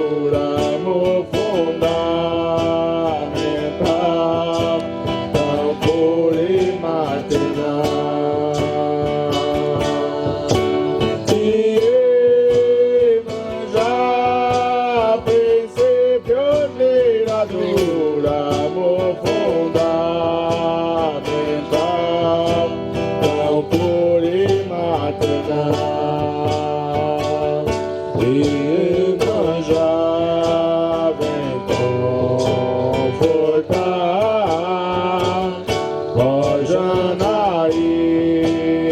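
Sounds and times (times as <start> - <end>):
person singing: 0.0 - 38.9
strummed guitar: 0.0 - 38.9.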